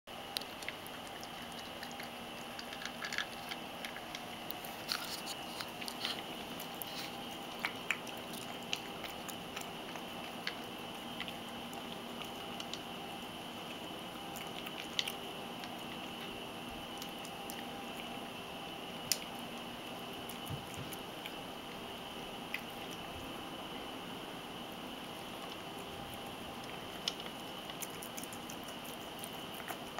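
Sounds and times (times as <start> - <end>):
wet chewing: 0.1 - 21.8, 22.4 - 23.3, 25.0 - 29.9
cat crunching kibble: 0.1 - 23.4, 24.6 - 29.9
faint steady hum: 0.1 - 29.9.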